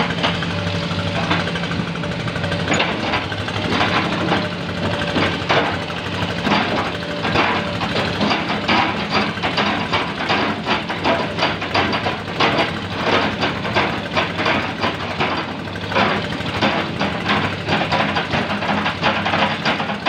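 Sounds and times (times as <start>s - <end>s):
excavator diesel engine under load: 0.0s - 20.0s
sharp knocks and clanks: 0.0s - 20.0s.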